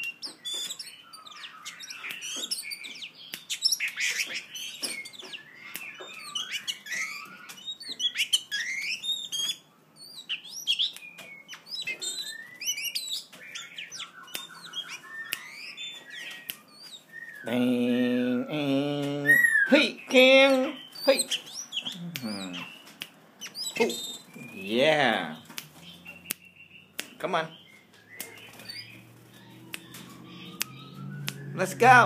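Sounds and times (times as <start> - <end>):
magpie-robin singing: 0.0 - 32.0.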